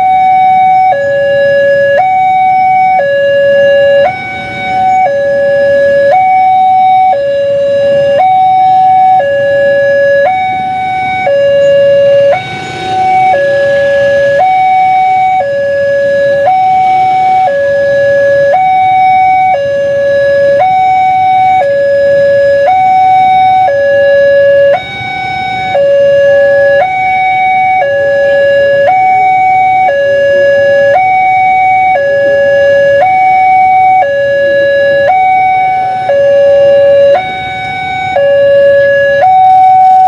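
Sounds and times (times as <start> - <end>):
two-tone crossing alarm: 0.0 - 40.0.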